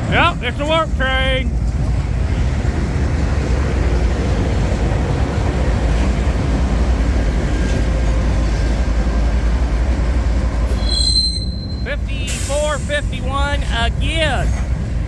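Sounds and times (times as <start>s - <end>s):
diesel locomotive engines rumbling: 0.0s - 15.0s
train cars rolling on rails: 0.0s - 15.0s.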